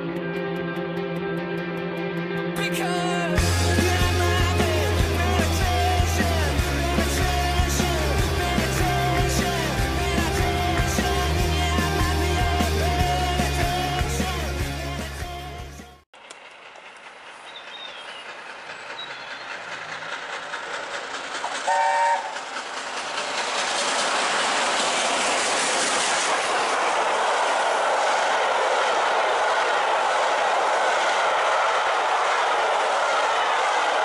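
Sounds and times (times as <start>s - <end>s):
steam locomotive approaching: 2.8s - 34.0s
train rushing over rails: 2.8s - 34.0s.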